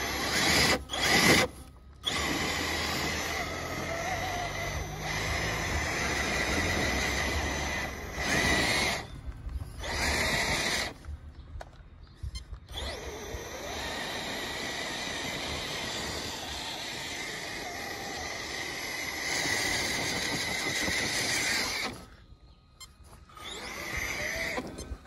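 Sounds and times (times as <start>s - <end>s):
electric motor whining: 0.0s - 11.1s, 12.3s - 25.0s.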